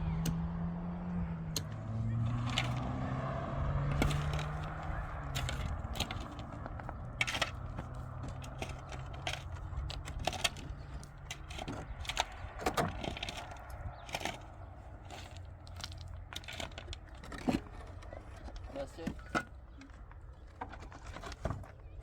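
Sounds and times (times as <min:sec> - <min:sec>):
hard objects clicking and knocking: 0:01.5 - 0:22.0.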